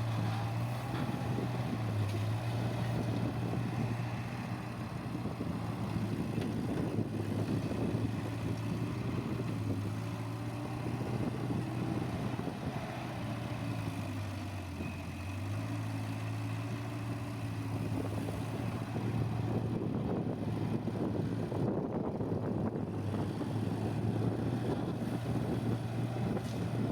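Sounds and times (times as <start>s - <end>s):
diesel engine of heavy machinery: 0.0s - 26.9s.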